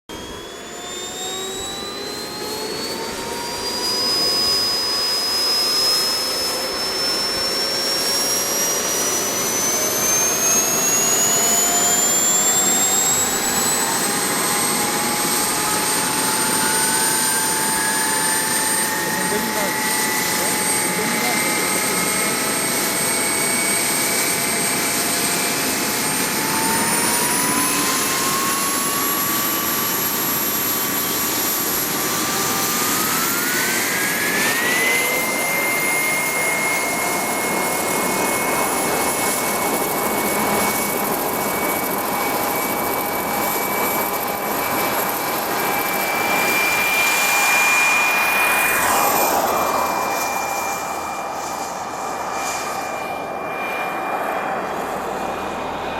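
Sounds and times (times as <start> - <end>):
gas turbine whining: 0.1 - 55.9.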